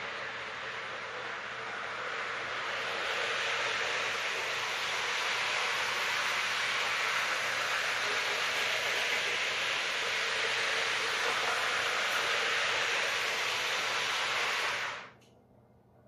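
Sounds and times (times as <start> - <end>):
model train running on track: 0.0 - 15.1.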